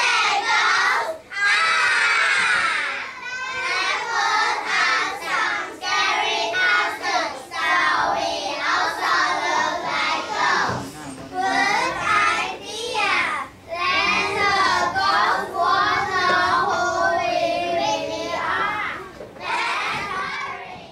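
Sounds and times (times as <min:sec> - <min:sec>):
children singing in unison: 0:00.0 - 0:20.9.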